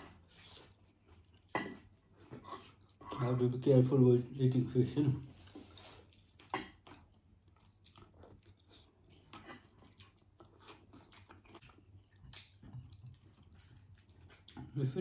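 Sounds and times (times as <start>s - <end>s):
faint wet chewing: 0.0s - 3.5s, 5.2s - 15.0s.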